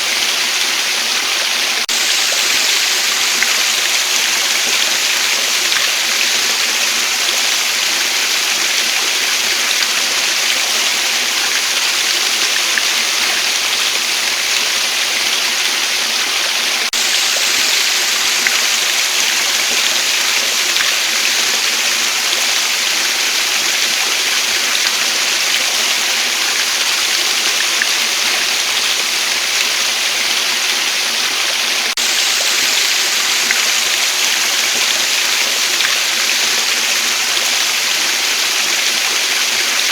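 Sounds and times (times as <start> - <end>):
waterfall rushing: 0.0 - 14.6, 16.6 - 39.9.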